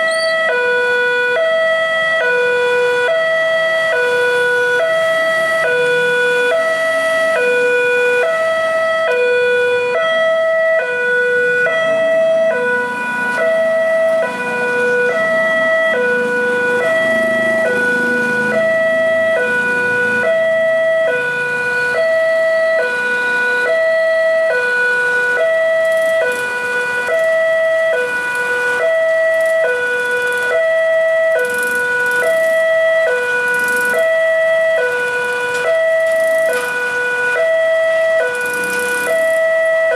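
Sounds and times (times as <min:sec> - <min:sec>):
level crossing two-tone alarm: 0:00.0 - 0:39.9
low vehicle rumble: 0:00.0 - 0:39.9.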